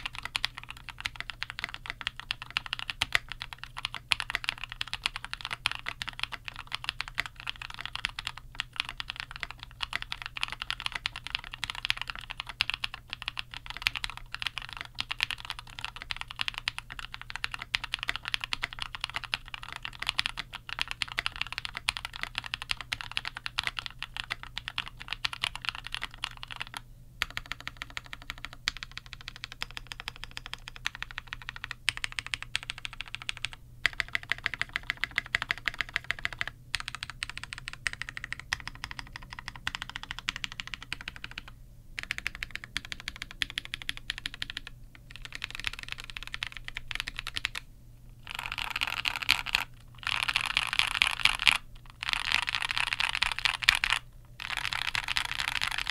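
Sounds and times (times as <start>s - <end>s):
keyboard modifier key presses: 0.0s - 47.6s
mechanical keyboard typing: 0.0s - 47.6s, 48.2s - 55.9s.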